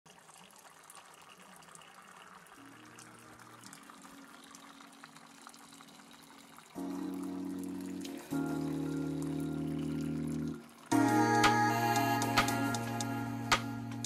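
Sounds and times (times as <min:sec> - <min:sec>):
water drips splashing into pool: 0:00.1 - 0:13.1.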